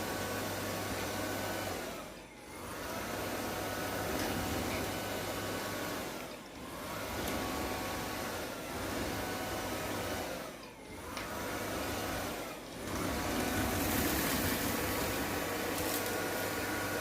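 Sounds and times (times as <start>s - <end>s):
robot vacuum motor whirring: 0.4s - 17.0s.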